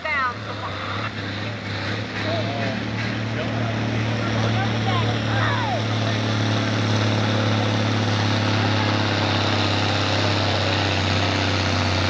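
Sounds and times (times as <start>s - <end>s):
diesel tractor engine at full throttle: 0.0s - 12.0s.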